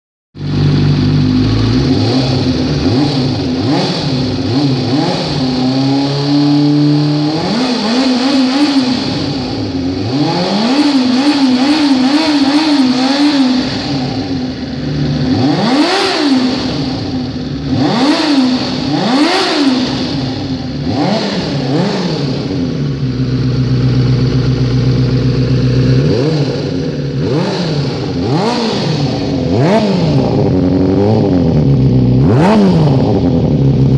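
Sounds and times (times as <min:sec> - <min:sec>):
motorcycle engine revving: 0:00.4 - 0:33.9.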